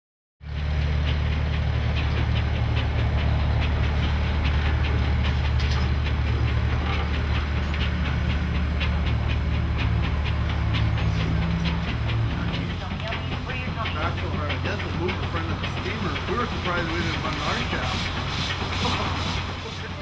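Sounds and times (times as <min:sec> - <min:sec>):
sawmill low hum: 0:00.4 - 0:20.0
light regular ticking: 0:00.9 - 0:19.6.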